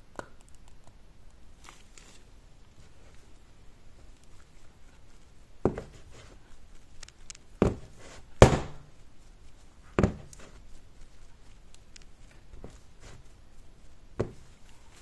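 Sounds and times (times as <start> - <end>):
handling clicks and rustles: 1.6 - 15.0.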